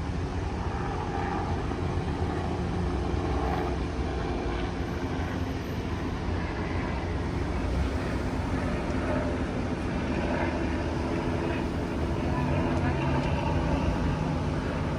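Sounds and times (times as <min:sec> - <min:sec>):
vehicle engines and tyres rumbling: 0:00.0 - 0:14.9.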